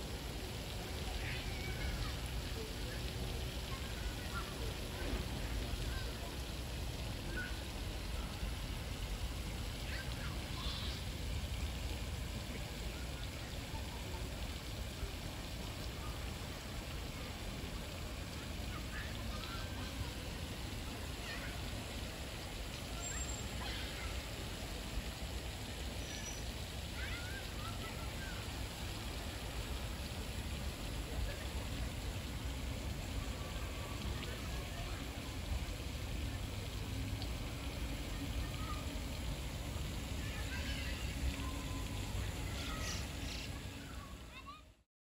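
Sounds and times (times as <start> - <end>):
hiss with low rumble: 0.0 - 44.8.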